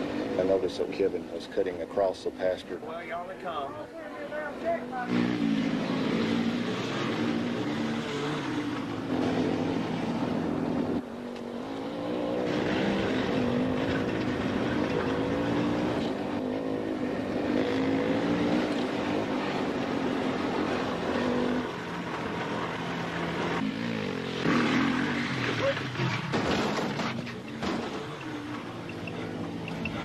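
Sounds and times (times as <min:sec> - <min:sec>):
atv engine running: 0:04.8 - 0:30.0.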